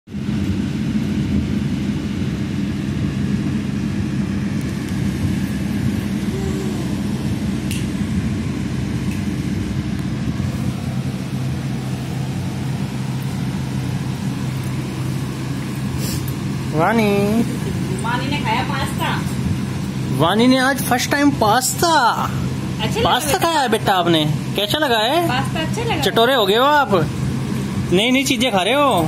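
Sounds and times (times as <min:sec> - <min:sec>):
motor humming: 0:02.1 - 0:29.0.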